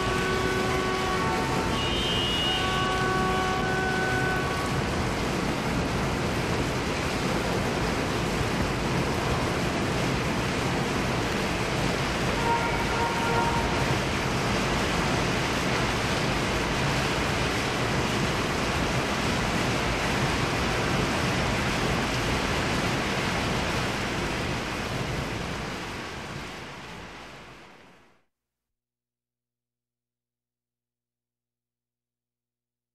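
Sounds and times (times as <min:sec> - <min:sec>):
rain falling: 0:00.0 - 0:28.2.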